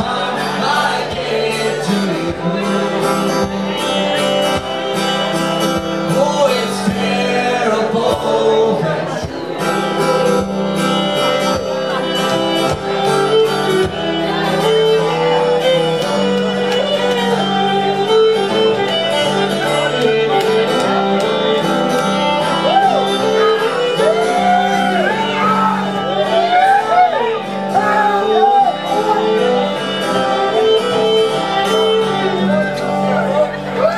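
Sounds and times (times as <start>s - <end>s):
acoustic guitar strumming: 0.0s - 33.9s
bowed fiddle melody: 0.0s - 33.9s.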